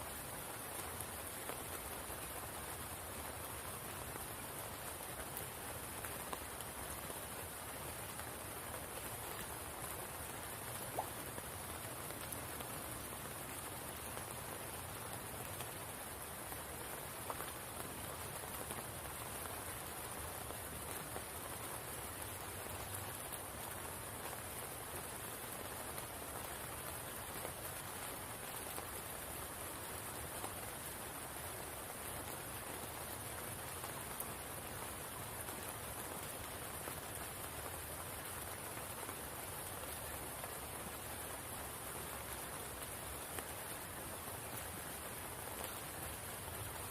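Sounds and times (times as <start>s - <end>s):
rain falling on a pool: 0.0s - 46.9s.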